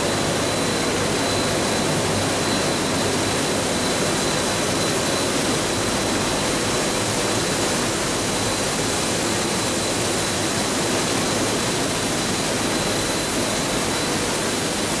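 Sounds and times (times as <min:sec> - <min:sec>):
high machine whine: 0:00.0 - 0:15.0.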